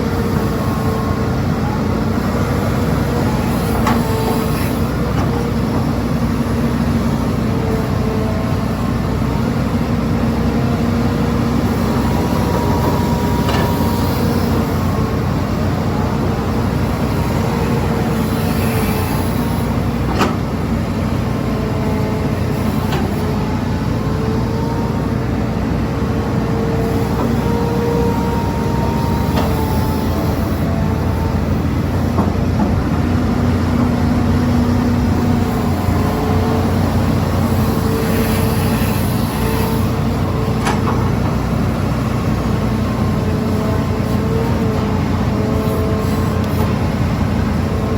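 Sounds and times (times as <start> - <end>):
excavator engine drone with whine: 0.0 - 47.9.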